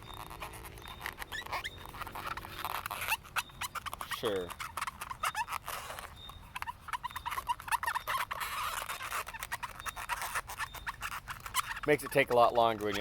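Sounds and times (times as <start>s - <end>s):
marker squeaking on balloon: 0.0s - 13.0s.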